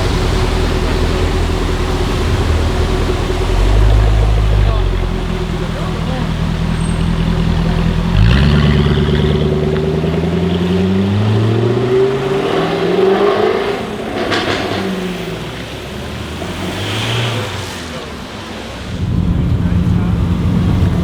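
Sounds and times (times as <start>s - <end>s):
car engine accelerating hard: 0.0s - 21.0s
exhaust crackles: 0.0s - 21.0s.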